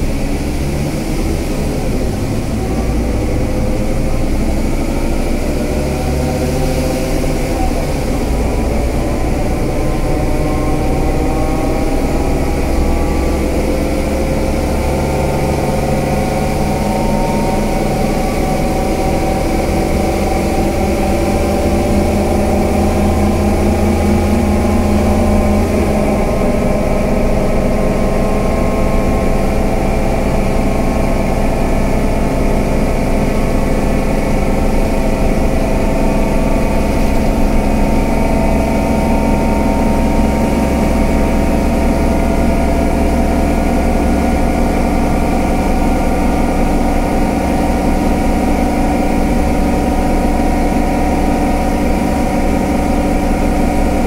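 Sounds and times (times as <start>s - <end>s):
bus diesel engine running: 0.0s - 54.0s
deep low hum: 0.0s - 54.0s.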